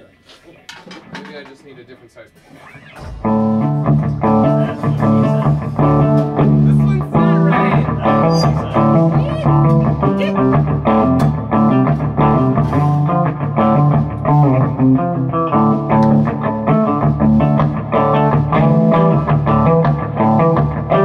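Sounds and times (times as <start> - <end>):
electric guitar rock-blues playing: 2.6 - 21.0.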